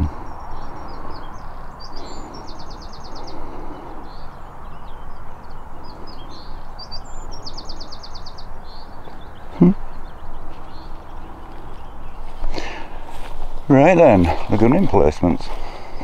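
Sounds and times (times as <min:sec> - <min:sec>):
songbird singing trills: 0:00.0 - 0:16.0.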